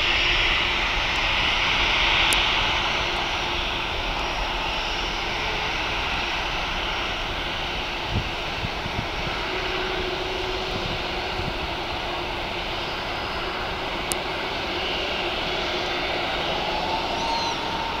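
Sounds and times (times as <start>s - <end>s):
jet airliner taking off: 0.0s - 18.0s.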